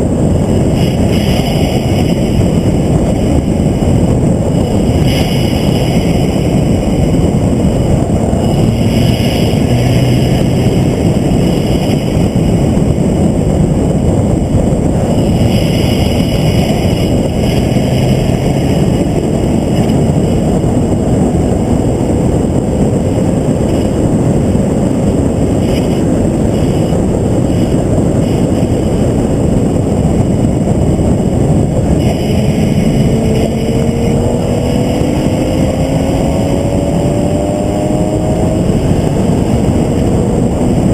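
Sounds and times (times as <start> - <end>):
race car engine: 0.0 - 40.9
wind and road noise: 0.0 - 40.9.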